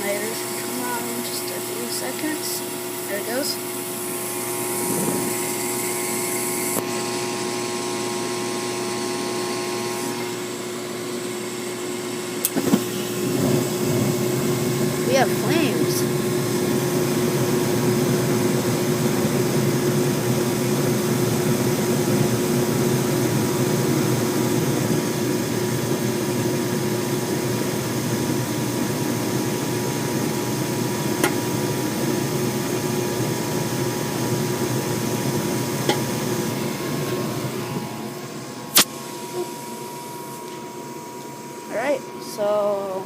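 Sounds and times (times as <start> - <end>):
gas furnace running: 0.0 - 43.0.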